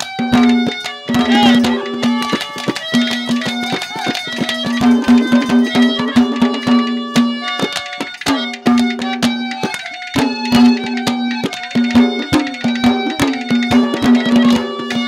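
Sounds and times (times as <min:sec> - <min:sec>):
hand drum strokes: 0:00.0 - 0:15.0
harmonium melody: 0:00.0 - 0:15.0.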